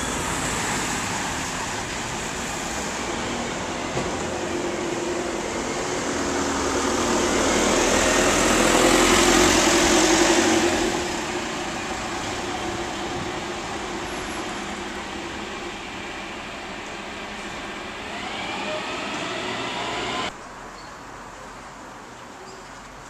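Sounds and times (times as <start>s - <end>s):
street traffic hum: 0.0s - 23.0s.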